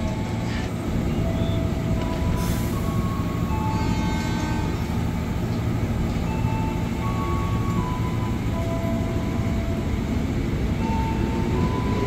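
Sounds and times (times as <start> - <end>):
electric train equipment humming: 0.0 - 12.0.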